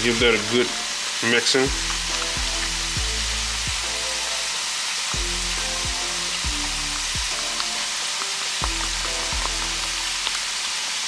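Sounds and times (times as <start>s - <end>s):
background music with beat: 0.0s - 10.7s
deep fryer sizzling: 0.0s - 11.0s.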